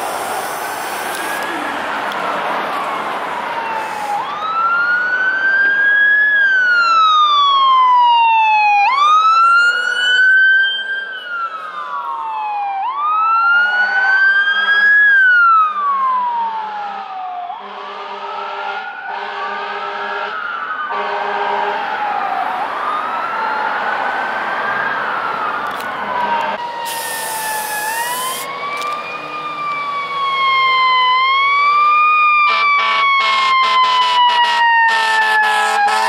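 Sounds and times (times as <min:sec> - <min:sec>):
faint distant siren wails: 0:00.0 - 0:36.0
fire engine sirens wailing: 0:00.0 - 0:36.0.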